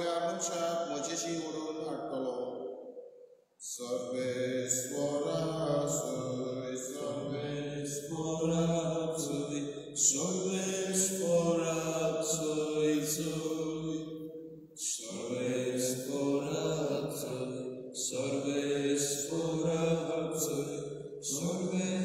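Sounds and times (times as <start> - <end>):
man singing chant unaccompanied: 0.0 - 2.0, 3.6 - 14.0, 14.8 - 22.0.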